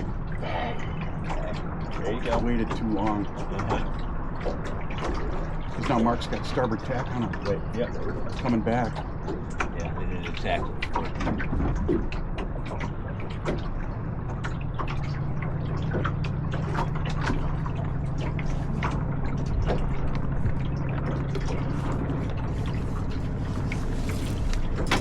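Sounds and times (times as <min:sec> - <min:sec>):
low rumble: 0:00.0 - 0:25.0
water splashing against boat hull: 0:00.0 - 0:25.0.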